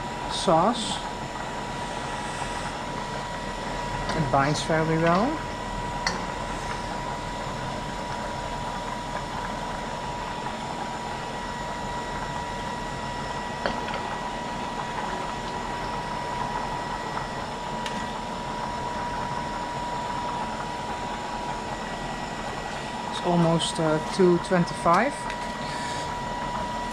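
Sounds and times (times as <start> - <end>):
mechanical hum with high whine: 0.0 - 26.9.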